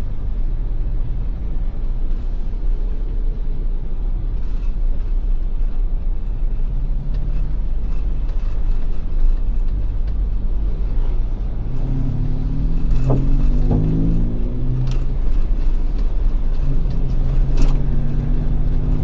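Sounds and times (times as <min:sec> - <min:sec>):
low droning tone: 0:00.0 - 0:19.0
road and engine rumble: 0:00.0 - 0:19.0.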